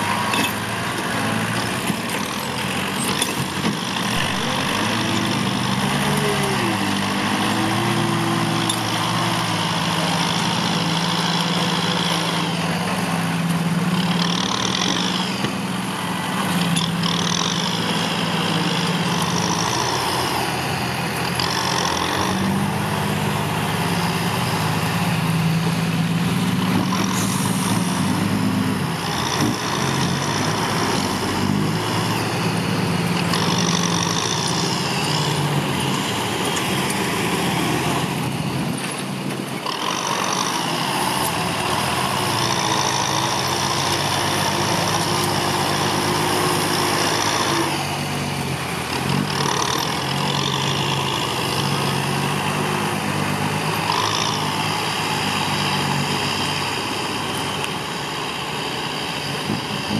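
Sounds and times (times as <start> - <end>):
dozer blades pushing soil: 0.0 - 59.9
tractor engines working under load: 0.0 - 59.9.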